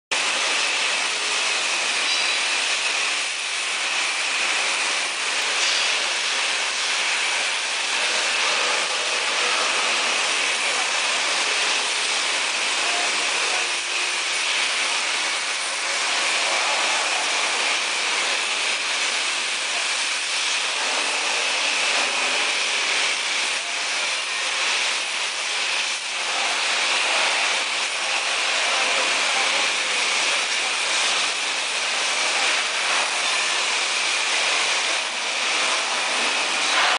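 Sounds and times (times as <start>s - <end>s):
cutting torch hissing: 0.1s - 36.9s.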